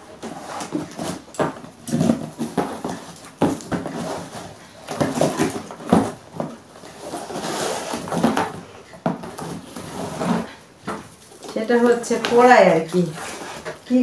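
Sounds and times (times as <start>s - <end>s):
cardboard and plastic rustling: 0.0s - 14.0s.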